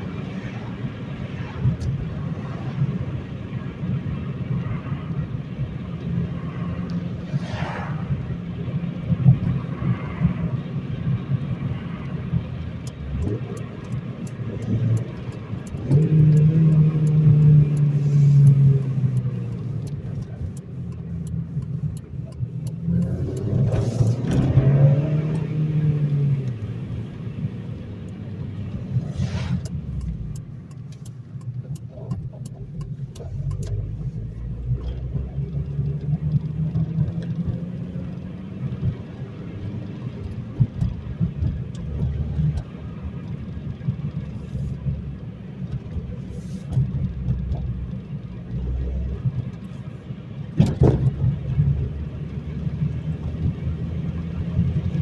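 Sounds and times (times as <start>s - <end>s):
car engine accelerating: 0.0s - 55.0s
road noise inside car: 0.0s - 55.0s.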